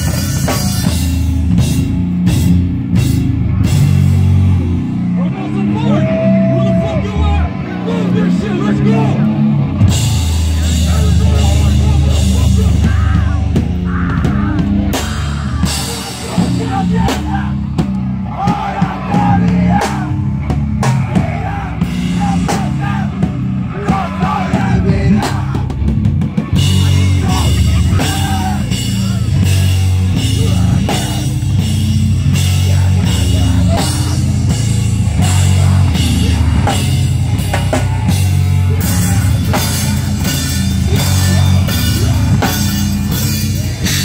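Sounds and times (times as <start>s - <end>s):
heavy rock band playing: 0.0s - 44.0s.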